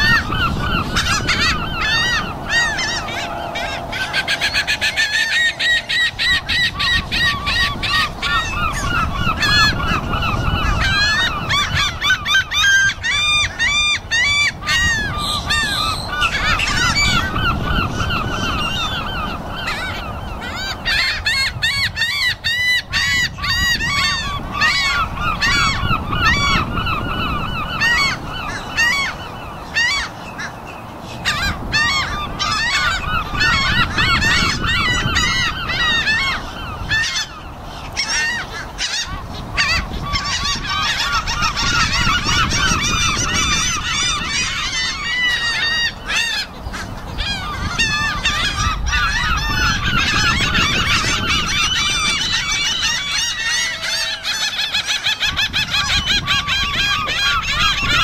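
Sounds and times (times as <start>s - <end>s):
flock of gulls calling: 0.0s - 58.0s.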